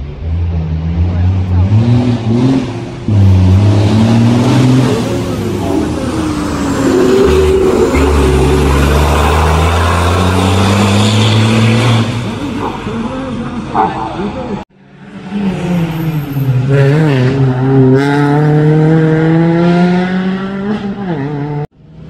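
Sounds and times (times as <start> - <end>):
diesel engine accelerating hard: 0.0 - 22.0.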